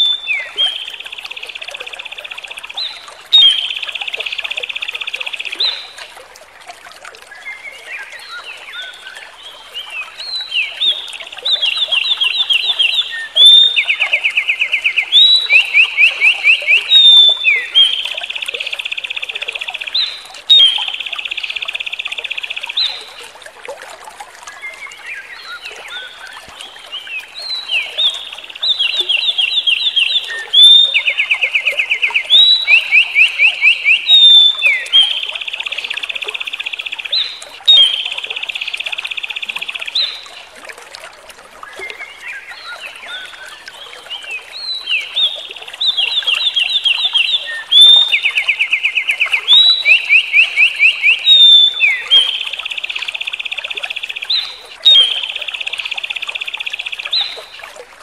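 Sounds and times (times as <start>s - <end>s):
songbird singing trills: 0.0s - 6.0s, 7.4s - 23.2s, 24.6s - 40.5s, 41.7s - 57.6s.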